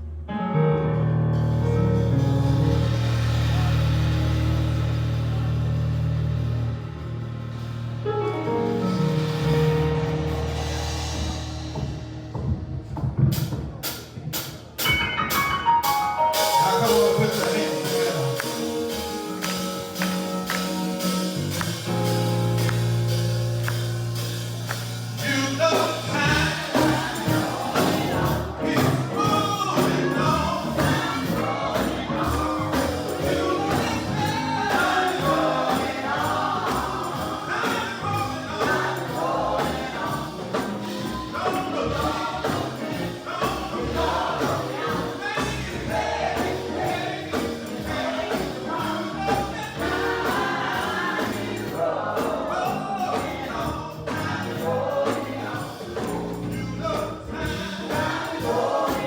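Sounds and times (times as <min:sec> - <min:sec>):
gospel choir singing: 0:01.6 - 0:12.1, 0:15.8 - 0:59.0.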